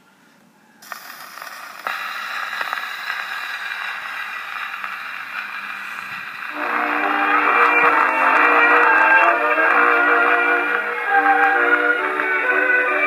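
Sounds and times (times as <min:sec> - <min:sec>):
record surface hiss and crackle: 0:00.0 - 0:13.0
record clicks: 0:00.8 - 0:11.6
band music from gramophone: 0:00.8 - 0:13.0.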